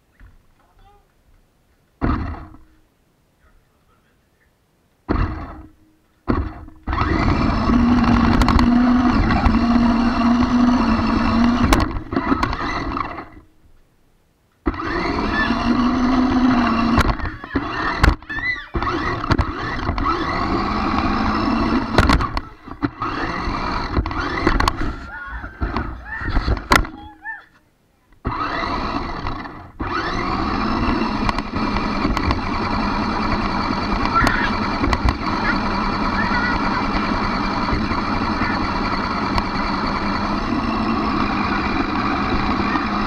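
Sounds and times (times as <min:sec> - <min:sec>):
toy car electric motor whining: 0:05.1 - 0:05.7, 0:06.3 - 0:13.5, 0:14.6 - 0:27.3, 0:28.2 - 0:43.0.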